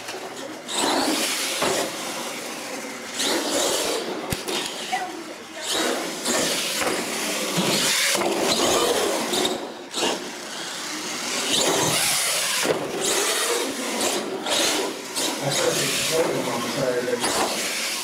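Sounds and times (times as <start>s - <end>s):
toy truck motor whine: 0.4s - 18.0s.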